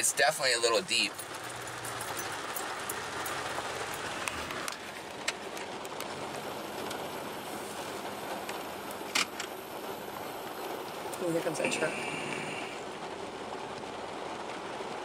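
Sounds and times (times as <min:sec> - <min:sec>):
heavy rain on a flooded street: 0:00.0 - 0:15.0.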